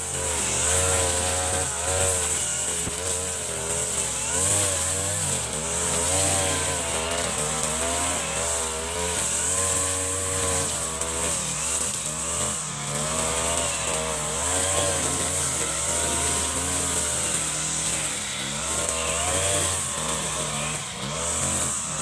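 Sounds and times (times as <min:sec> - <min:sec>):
brush cutter engine cutting grass: 0:00.0 - 0:22.0.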